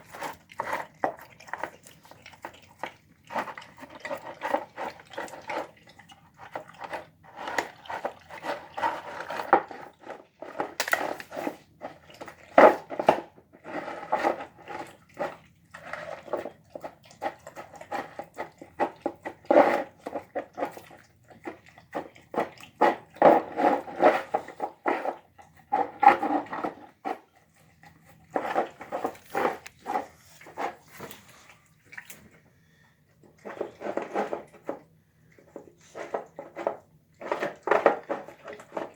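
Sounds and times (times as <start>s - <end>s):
dog chewing and crunching bones: 0.0s - 38.9s.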